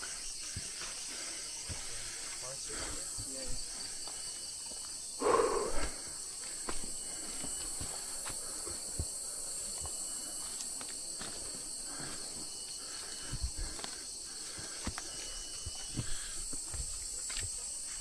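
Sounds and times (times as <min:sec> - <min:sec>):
footsteps on trail: 0:00.0 - 0:18.0
high-pitched insect chorus: 0:00.0 - 0:18.0.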